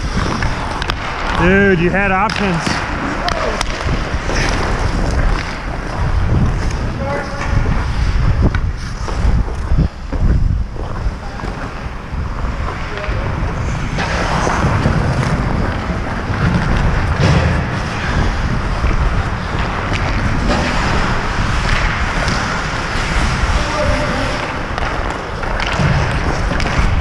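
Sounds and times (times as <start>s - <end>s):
ice skate blades scraping: 0.0s - 27.0s
wind buffeting microphone: 0.0s - 27.0s.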